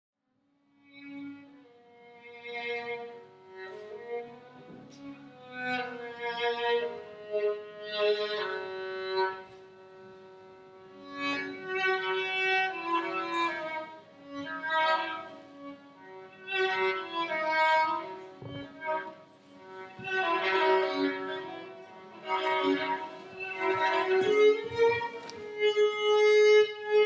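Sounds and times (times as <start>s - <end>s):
slow violin melody: 0.7s - 27.0s.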